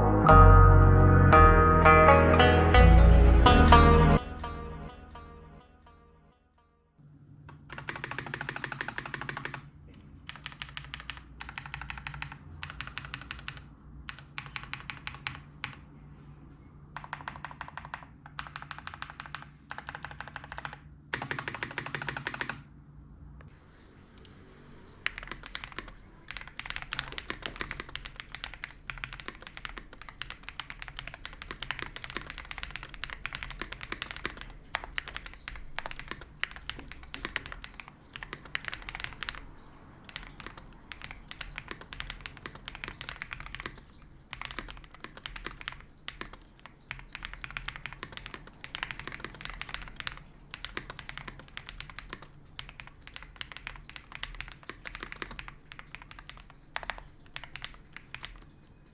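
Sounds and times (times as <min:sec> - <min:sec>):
fast mechanical keyboard typing: 0:07.5 - 0:15.9, 0:16.9 - 0:22.7, 0:25.0 - 0:58.9.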